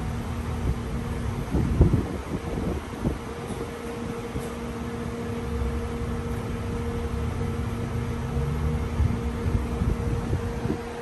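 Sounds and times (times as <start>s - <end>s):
fuel dispenser electric hum: 0.0s - 11.0s.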